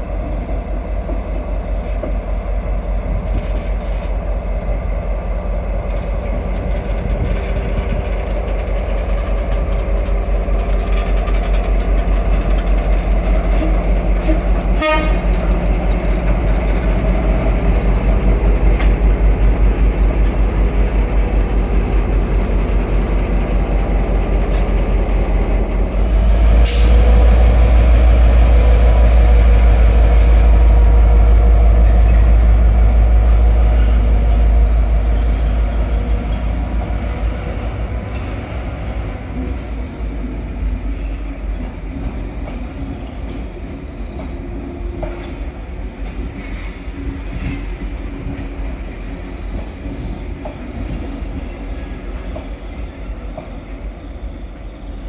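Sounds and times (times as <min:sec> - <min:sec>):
diesel locomotive throbbing: 0:00.0 - 0:52.5.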